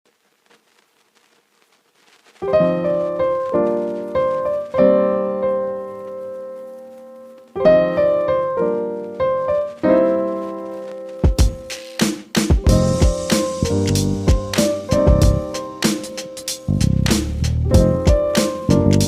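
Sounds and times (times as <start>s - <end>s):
piano chords ringing: 2.4s - 11.9s, 12.6s - 19.0s.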